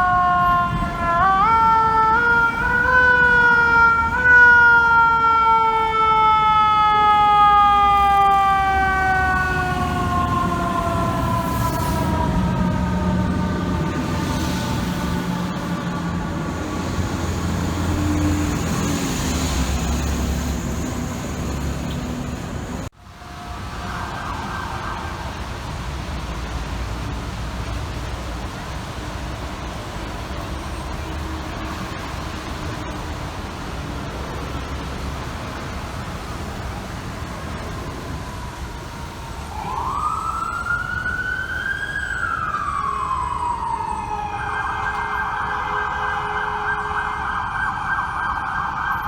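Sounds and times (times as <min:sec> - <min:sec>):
engine rumble: 0:00.0 - 0:45.4
fire truck sirens: 0:00.0 - 0:49.0
street traffic: 0:00.0 - 0:49.0.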